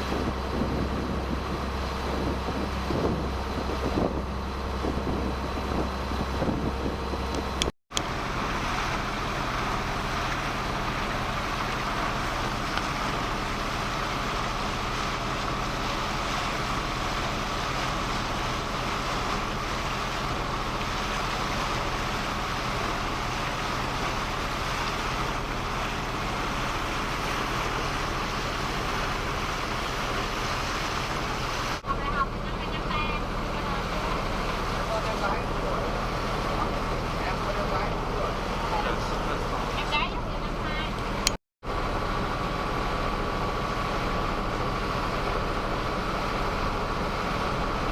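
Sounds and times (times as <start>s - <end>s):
boat engine drone: 0.0s - 47.9s
rushing water wash: 0.0s - 47.9s.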